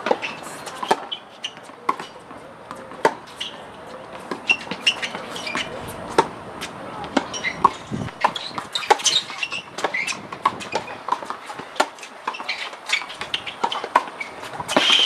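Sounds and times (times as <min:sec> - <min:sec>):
tennis balls struck and bouncing: 0:00.0 - 0:15.0.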